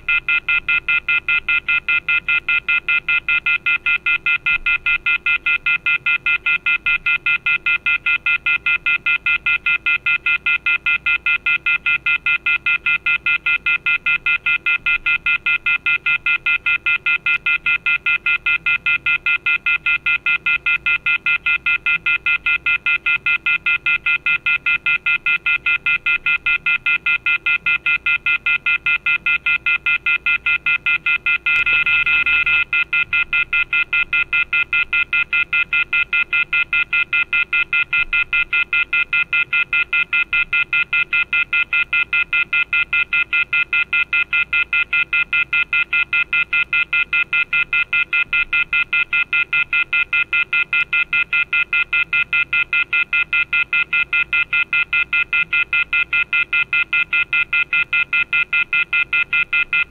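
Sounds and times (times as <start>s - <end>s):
telephone off-hook warning beeping: 0.0s - 59.9s.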